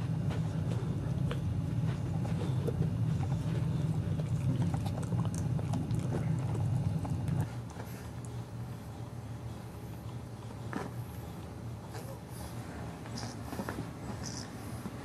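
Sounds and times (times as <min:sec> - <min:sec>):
dog gnawing a chew stick: 0:00.2 - 0:15.0.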